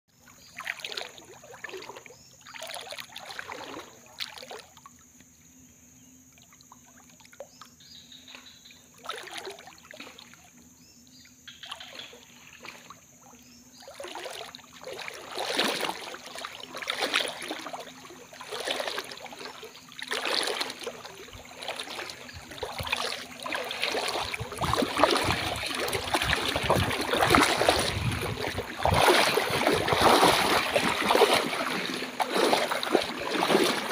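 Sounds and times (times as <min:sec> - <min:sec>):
wading through water splashing: 0:00.2 - 0:05.0, 0:06.4 - 0:10.6, 0:11.6 - 0:33.9.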